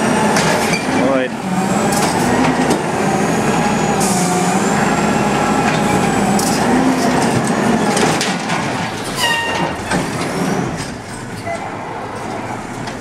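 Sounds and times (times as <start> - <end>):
hydraulic arm whining: 0.0 - 11.8
garbage truck running: 0.0 - 13.0.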